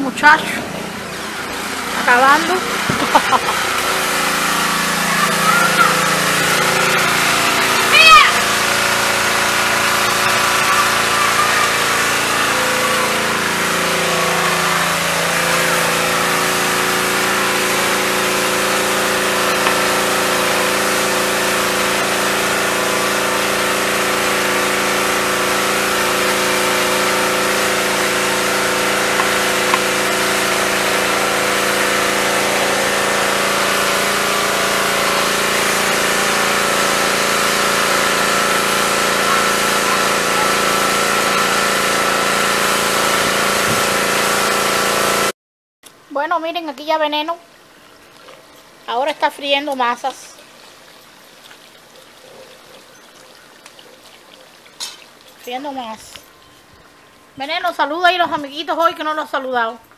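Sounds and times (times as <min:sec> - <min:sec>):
mechanical hum with tones: 0:00.0 - 0:59.9.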